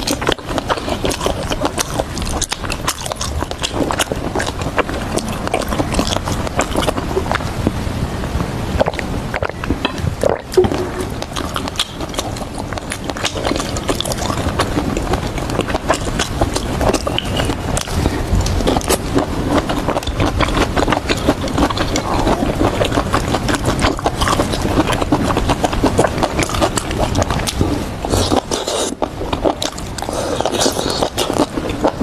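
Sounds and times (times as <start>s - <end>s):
chewing crunchy vegetables: 0.0s - 7.7s, 8.8s - 32.0s.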